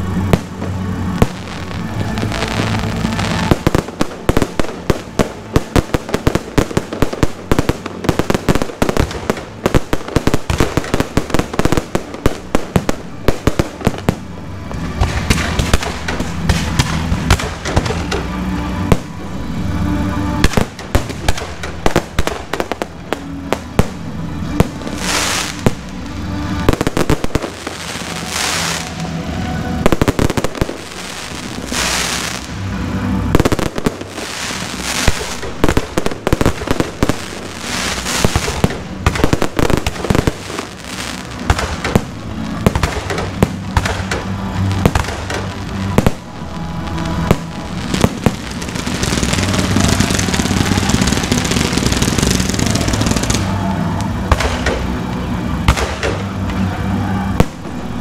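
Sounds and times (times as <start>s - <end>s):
fireworks hissing bursts: 0.0s - 56.5s
fireworks bangs: 0.0s - 58.0s
music: 0.0s - 58.0s.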